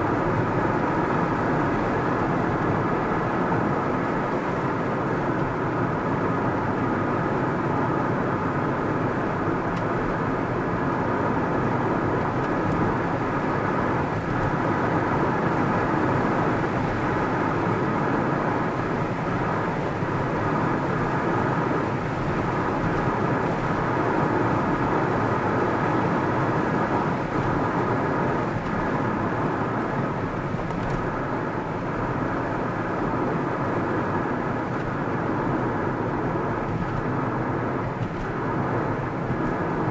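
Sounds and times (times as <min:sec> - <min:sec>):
car tyre and engine noise: 0:00.0 - 0:39.9.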